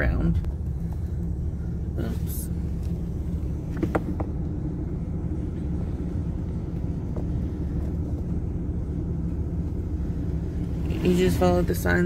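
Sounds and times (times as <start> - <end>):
car cabin engine rumble: 0.0 - 12.0.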